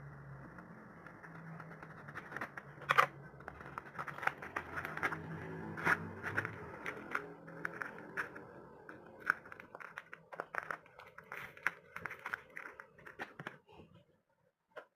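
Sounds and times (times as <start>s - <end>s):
paper and plastic rustling: 1.3s - 13.9s
packaging being handled: 1.4s - 13.7s.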